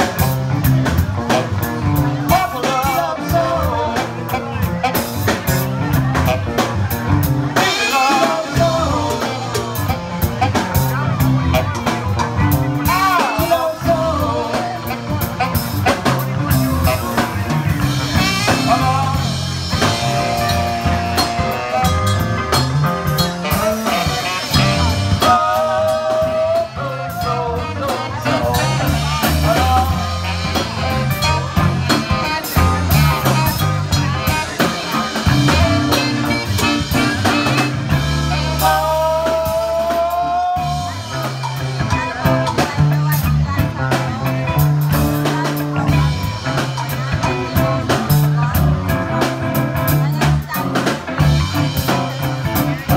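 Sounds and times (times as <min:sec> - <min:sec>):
soul band playing: 0:00.0 - 0:52.9
person singing: 0:01.9 - 0:04.6, 0:07.2 - 0:22.3, 0:23.1 - 0:49.2.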